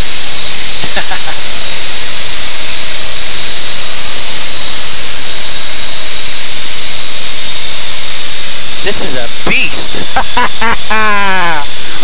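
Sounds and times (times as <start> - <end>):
steady high whine: 0.0 - 12.0.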